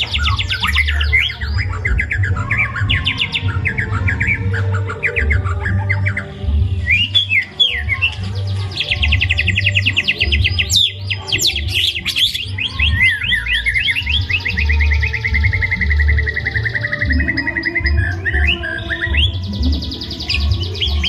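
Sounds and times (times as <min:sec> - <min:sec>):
songbird whistling and trilling: 0:00.0 - 0:21.0.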